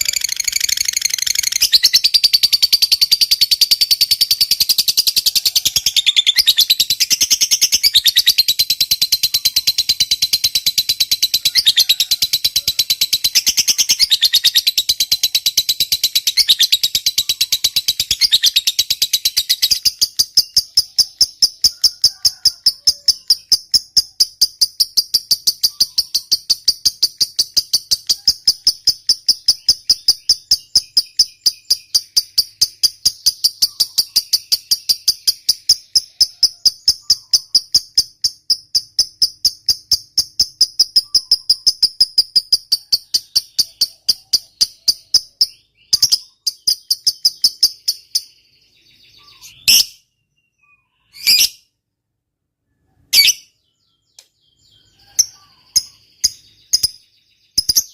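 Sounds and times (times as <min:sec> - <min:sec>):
bird chattering trill: 0:00.0 - 0:51.6, 0:52.9 - 0:57.9
sharp bird calls: 0:00.0 - 0:51.8, 0:52.6 - 0:57.9.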